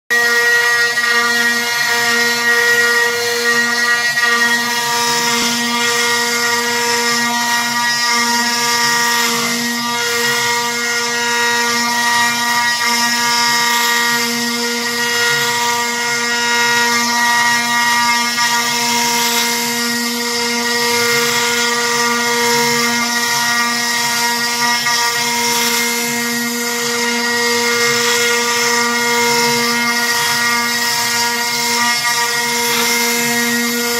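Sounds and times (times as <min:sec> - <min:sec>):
router spindle whine: 0:00.1 - 0:33.9.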